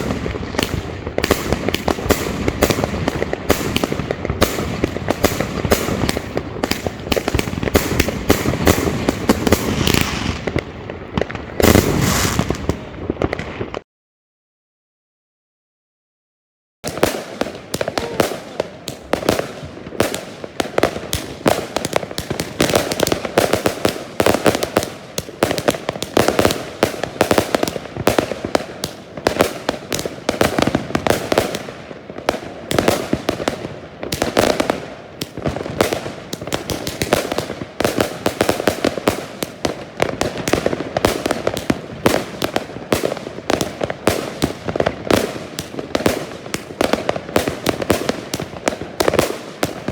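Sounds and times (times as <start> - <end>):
fireworks barrage: 0.0 - 13.8, 16.8 - 49.9.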